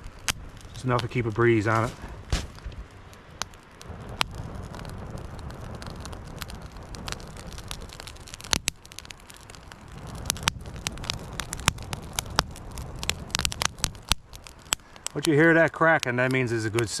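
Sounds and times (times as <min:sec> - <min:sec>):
low rush of air: 0:00.0 - 0:15.2
campfire crackling and popping: 0:00.0 - 0:17.0.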